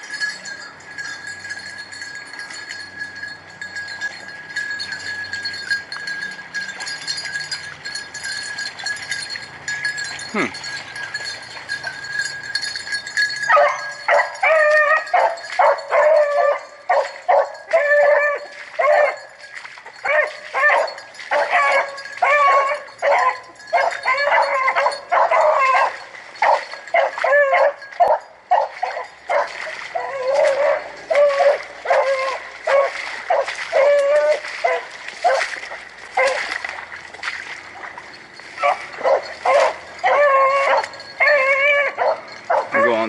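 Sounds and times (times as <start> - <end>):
hounds baying: 0.2 - 36.6, 38.5 - 43.0.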